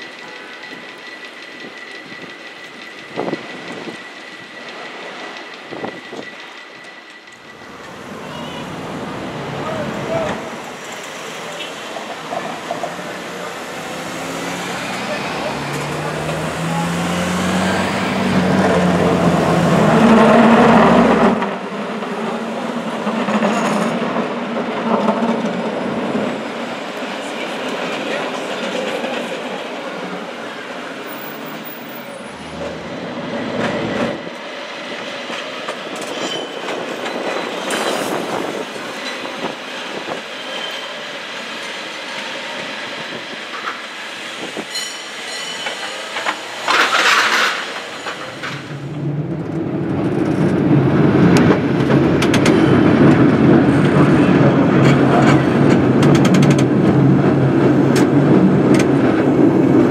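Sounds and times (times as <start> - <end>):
cable car rattling on track: 0.0 - 59.9.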